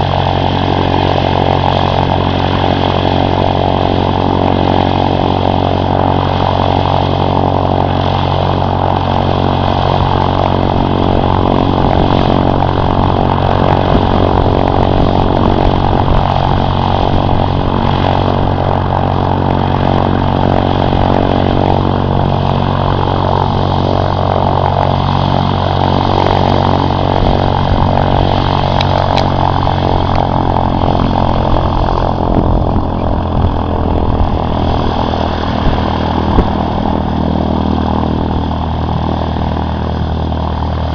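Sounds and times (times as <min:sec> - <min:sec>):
airplane engine and propeller running: 0:00.0 - 0:40.9.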